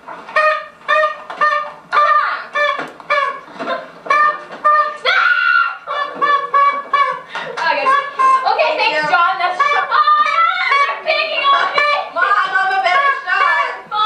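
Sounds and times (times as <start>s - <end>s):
paper party horns blowing: 0.1s - 14.0s.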